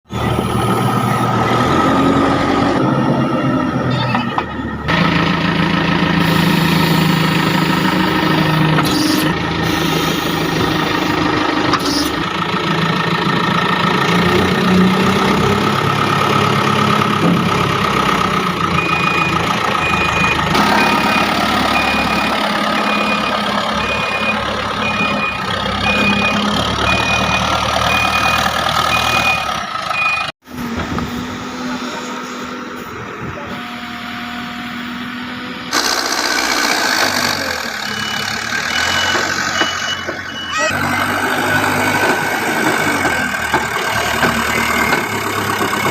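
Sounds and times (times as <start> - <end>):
diesel engines running: 0.1 - 45.9.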